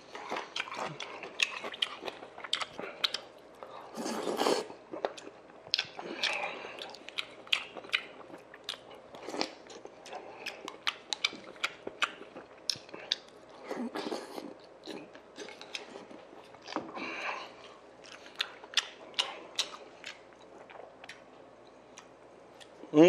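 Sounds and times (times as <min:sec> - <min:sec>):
wet chewing: 0:00.1 - 0:22.8.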